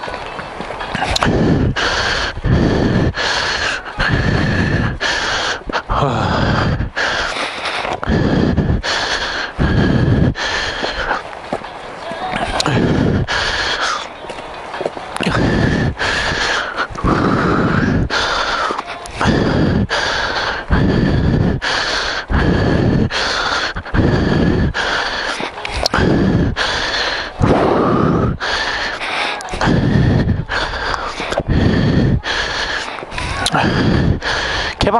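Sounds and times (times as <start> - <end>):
person breathing heavily: 0.0 - 34.9.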